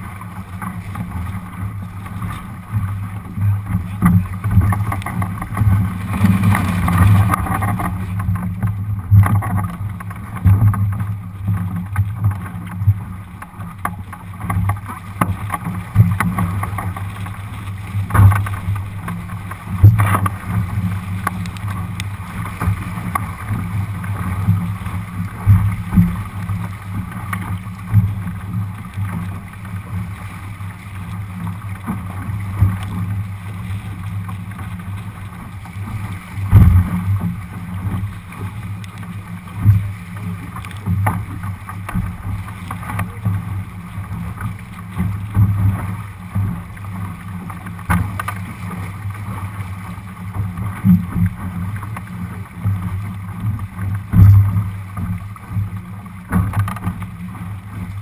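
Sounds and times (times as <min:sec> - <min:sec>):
water splashing against hull: 0:00.0 - 0:58.0.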